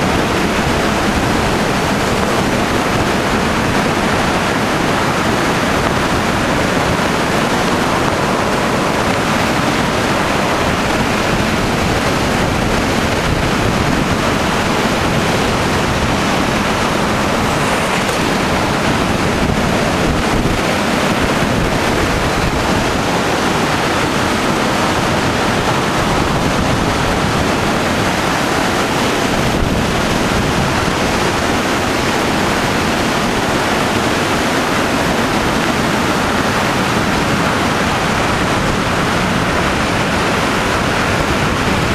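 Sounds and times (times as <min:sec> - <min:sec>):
car road and wind noise: 0:00.0 - 0:41.9.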